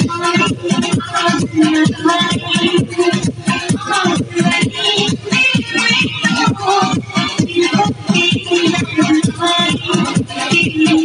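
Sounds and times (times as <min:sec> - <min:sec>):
loud dance music: 0:00.0 - 0:11.0.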